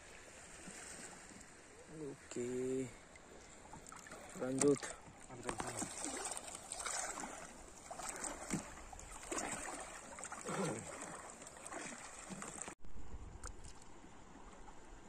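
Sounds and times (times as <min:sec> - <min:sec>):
feet wading through shallow water: 0:00.0 - 0:12.8
steady water noise: 0:00.0 - 0:15.0.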